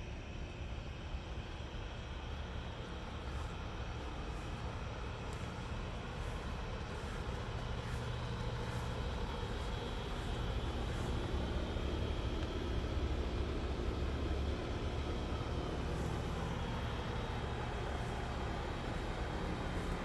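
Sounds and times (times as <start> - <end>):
faint hum: 0.0 - 20.0
low outdoor rumble: 0.0 - 20.0.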